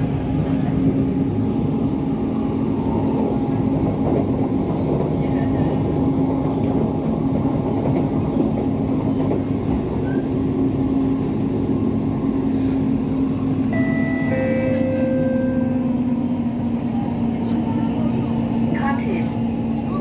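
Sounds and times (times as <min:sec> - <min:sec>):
train motor hum: 0:00.0 - 0:20.0
train wheels rumbling on rail: 0:00.0 - 0:20.0.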